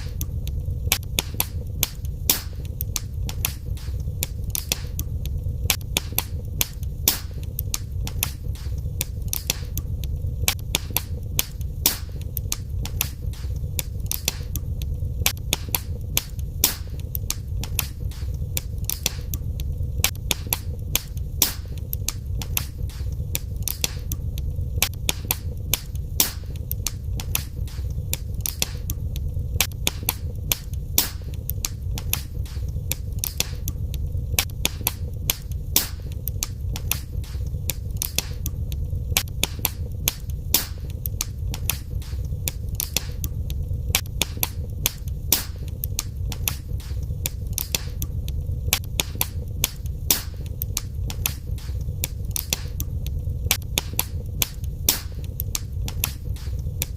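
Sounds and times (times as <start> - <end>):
fire pops and snaps: 0.0 - 56.9
low rumble of fire: 0.0 - 56.9.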